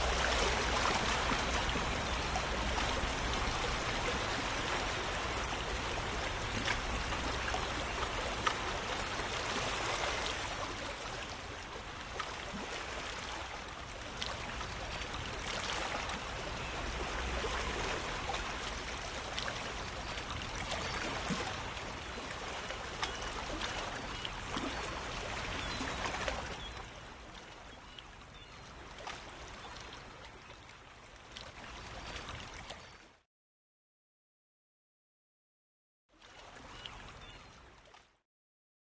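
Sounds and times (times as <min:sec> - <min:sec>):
rushing stream with small splashes: 0:00.0 - 0:33.0.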